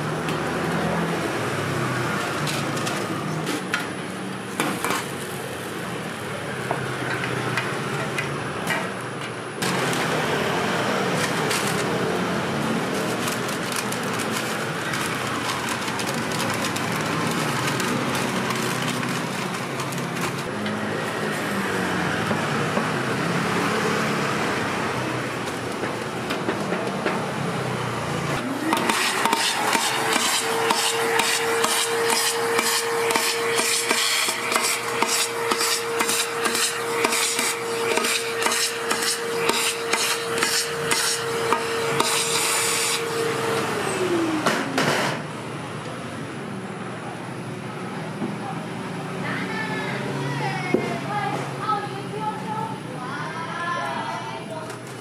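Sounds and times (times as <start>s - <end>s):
traffic and street noise: 0.0s - 55.0s.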